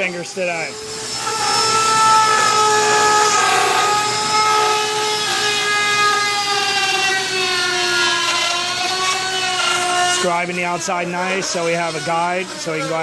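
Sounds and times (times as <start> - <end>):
power tool cutting fiberglass: 0.0 - 13.0.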